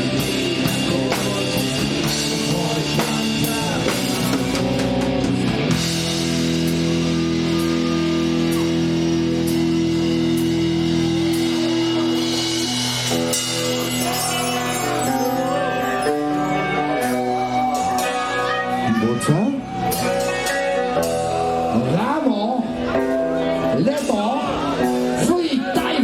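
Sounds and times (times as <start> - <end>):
distorted electric guitar chords: 0.0 - 26.0
drums and cymbals: 0.0 - 26.0.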